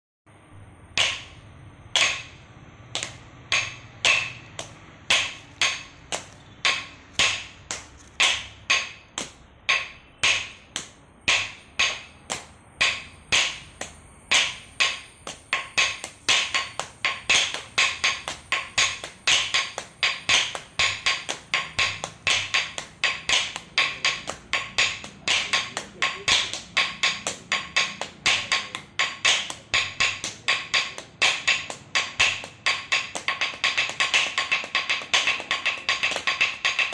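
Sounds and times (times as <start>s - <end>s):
sticks knocking on wooden blocks: 1.0s - 36.9s.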